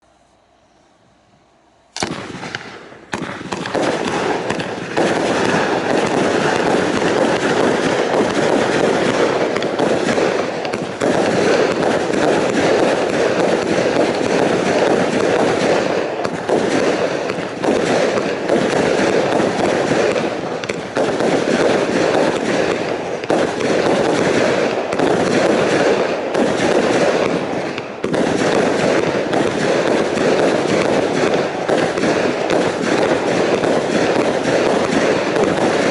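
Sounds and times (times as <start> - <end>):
fireworks crackling volley: 0.0 - 35.9.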